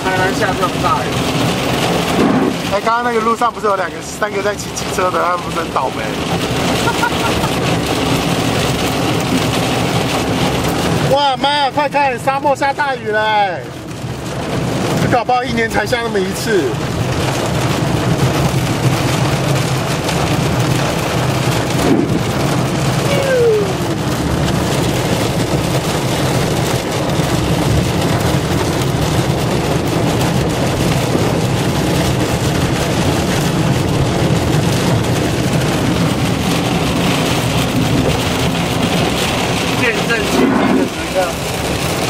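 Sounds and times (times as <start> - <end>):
car engine rumble: 0.0 - 42.0
heavy rain on a car: 0.0 - 42.0
tyres on wet road: 0.0 - 42.0.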